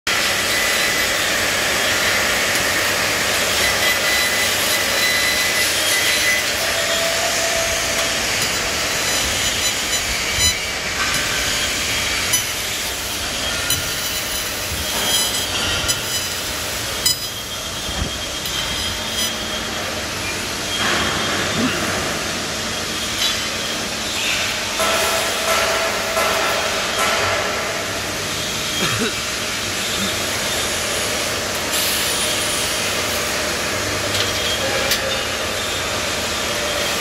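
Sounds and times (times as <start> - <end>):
laser cutter rushing noise: 0.1 - 37.0.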